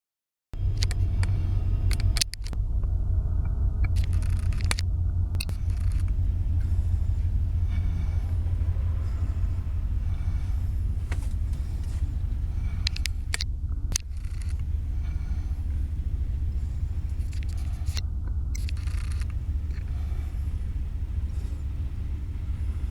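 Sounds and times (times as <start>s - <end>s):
freight train rumbling: 0.6s - 22.9s
sharp clanks: 3.4s - 22.9s.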